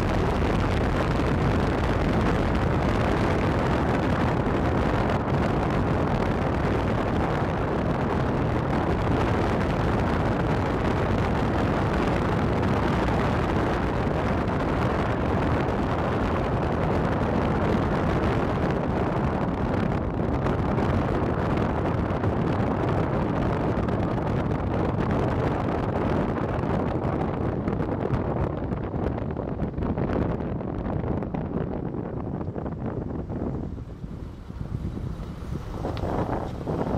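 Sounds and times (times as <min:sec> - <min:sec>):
vehicle engine and tyres rumbling: 0:00.0 - 0:36.9
wind buffeting microphone: 0:00.0 - 0:36.9.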